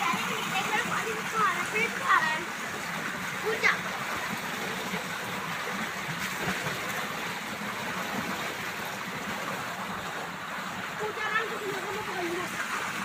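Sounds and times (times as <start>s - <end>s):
water running from a hose: 0.0s - 13.0s.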